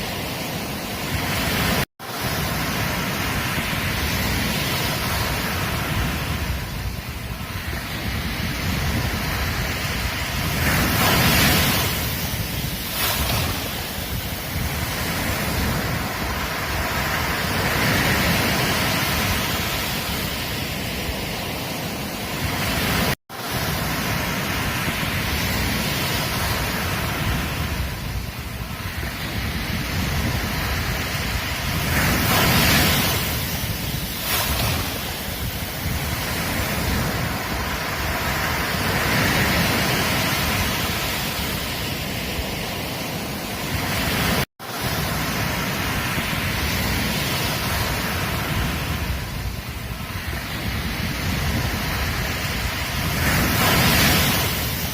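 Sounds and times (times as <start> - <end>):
ocean surf washing onto beach: 0.0 - 54.9
wind on microphone: 0.0 - 54.9.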